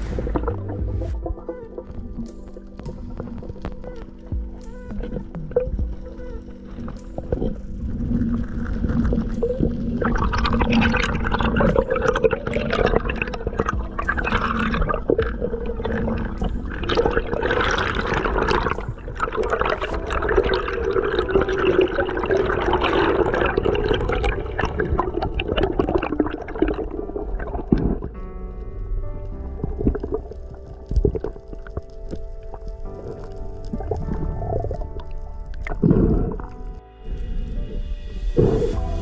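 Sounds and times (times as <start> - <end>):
underwater rushing water: 0.0 - 28.2, 29.3 - 37.8.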